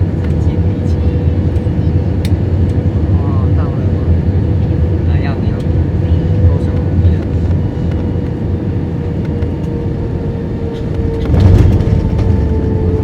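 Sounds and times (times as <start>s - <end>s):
airplane cabin rumble and hum: 0.0s - 13.0s.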